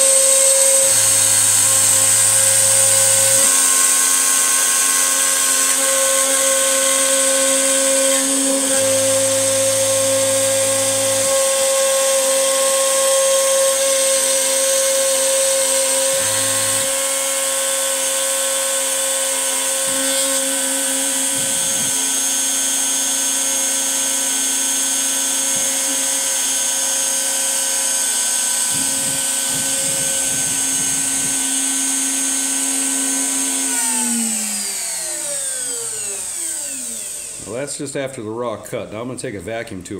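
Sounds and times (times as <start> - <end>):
router spindle whining: 0.0 - 38.0.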